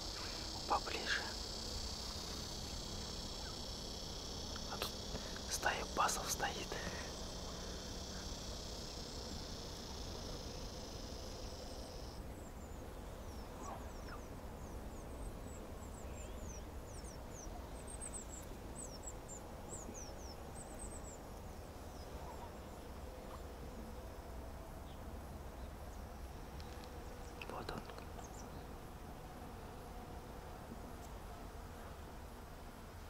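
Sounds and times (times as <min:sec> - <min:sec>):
small birds twittering: 0:00.0 - 0:29.8
insect buzzing: 0:00.0 - 0:33.0.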